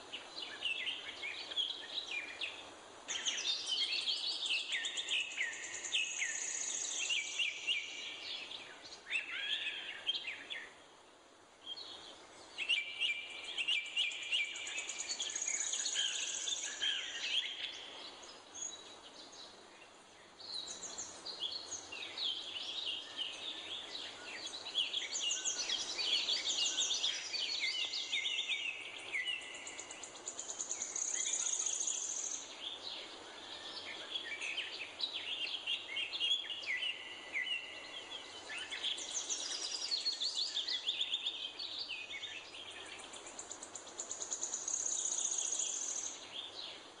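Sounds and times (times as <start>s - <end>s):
songbirds chirping and whistling: 0.0s - 47.0s.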